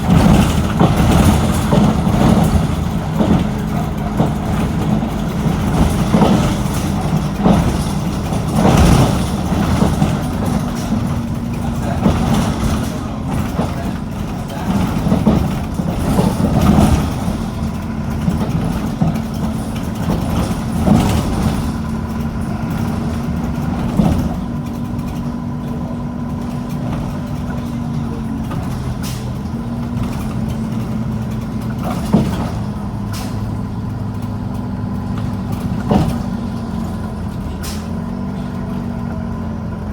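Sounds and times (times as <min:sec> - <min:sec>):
knocks and rattles: 0:00.0 - 0:39.8
bus diesel engine running: 0:00.0 - 0:39.9.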